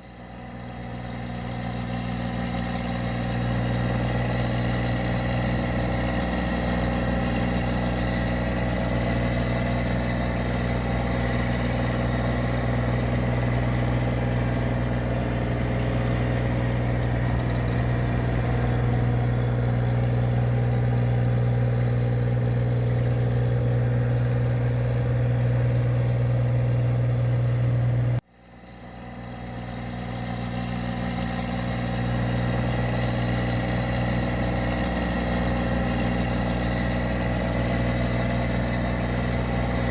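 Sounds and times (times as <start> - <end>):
machine engine running with low hum: 0.0 - 39.9.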